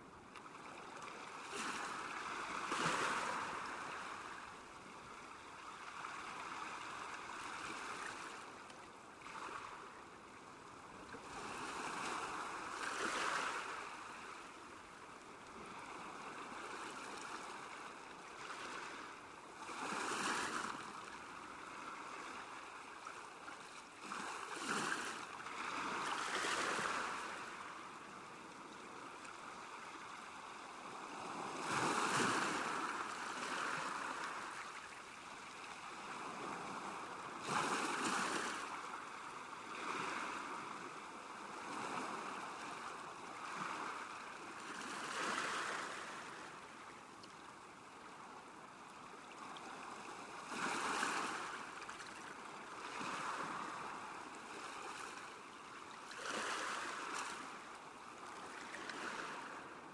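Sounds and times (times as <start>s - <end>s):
lake water lapping at shore: 0.4s - 8.6s, 11.1s - 47.0s, 49.4s - 55.4s, 56.0s - 59.7s.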